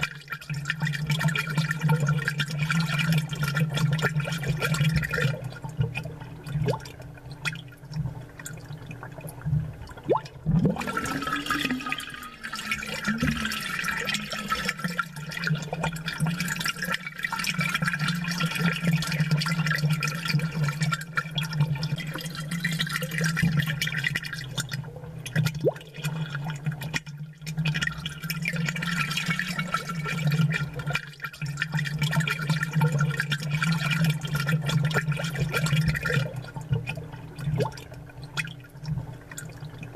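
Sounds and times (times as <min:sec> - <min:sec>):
water bubbling and gurgling: 0:00.0 - 0:39.9.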